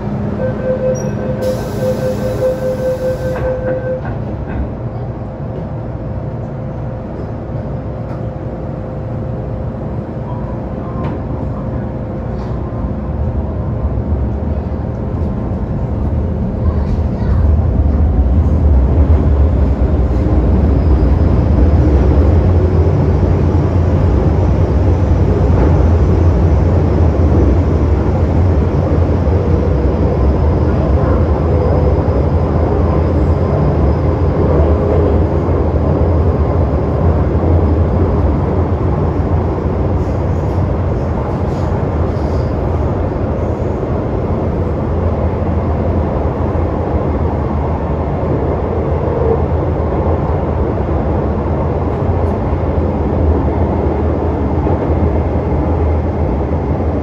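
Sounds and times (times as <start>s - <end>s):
train rumbling in tunnel: 0.0s - 57.0s.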